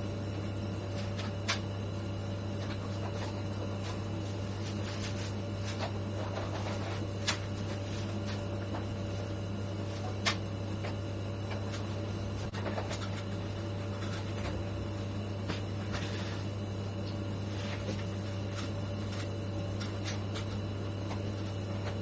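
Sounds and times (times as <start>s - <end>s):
low machine hum: 0.0s - 22.0s
thin steady whine: 0.0s - 22.0s.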